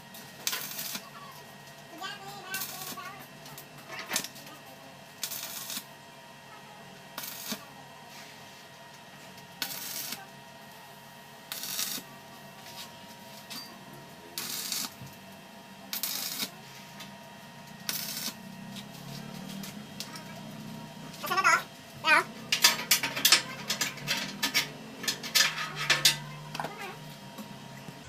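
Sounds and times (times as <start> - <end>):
welding arc crackling and hissing: 0.0 - 1.4, 2.0 - 6.0, 7.1 - 8.4, 9.3 - 28.0.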